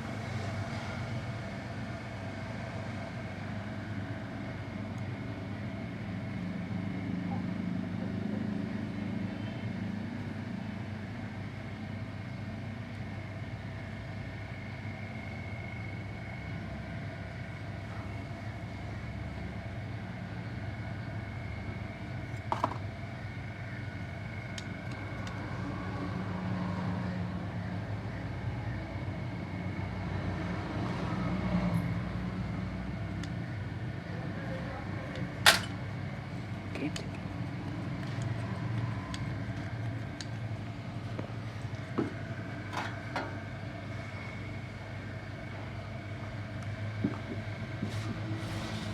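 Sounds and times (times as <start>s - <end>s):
workshop mechanical hum: 0.0s - 48.9s.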